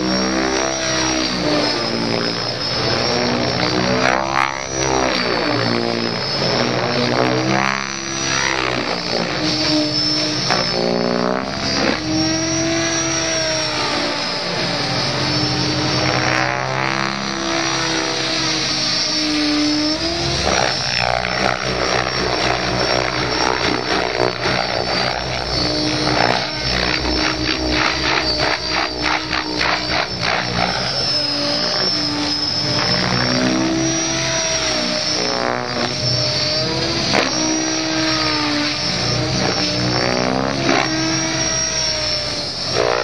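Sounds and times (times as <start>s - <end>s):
model helicopter rotor buzzing: 0.0s - 43.0s.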